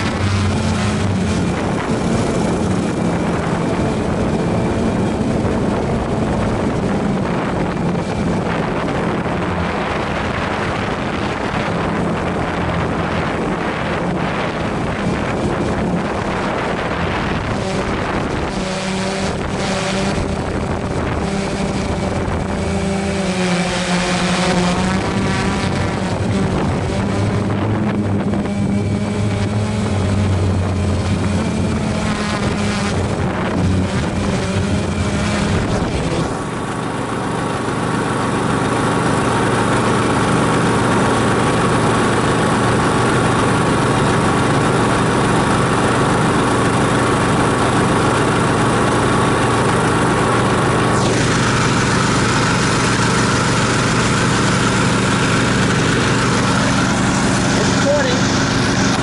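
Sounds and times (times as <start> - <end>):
mechanical whine: 0.0 - 59.0
riding mower engine running: 0.0 - 59.0.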